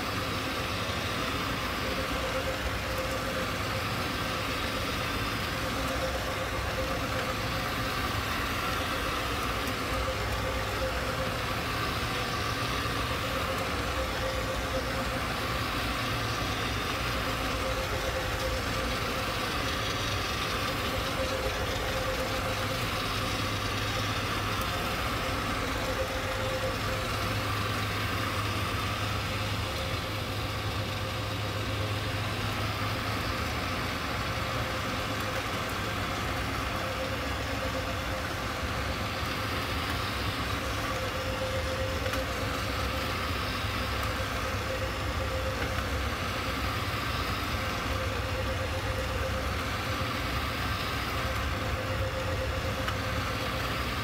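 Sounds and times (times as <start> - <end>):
carpet cleaning machine humming: 0.0 - 54.0.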